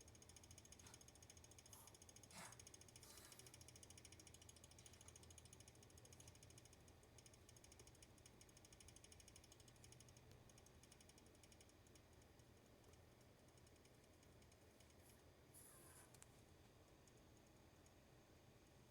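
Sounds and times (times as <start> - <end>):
computer faint rapid rattle: 0.0 - 18.1.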